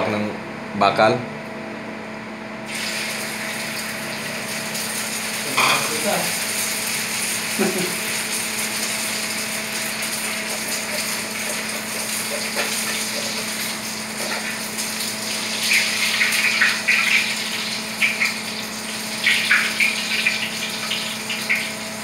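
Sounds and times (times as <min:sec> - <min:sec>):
food sizzling in a pan: 0:02.7 - 0:22.0.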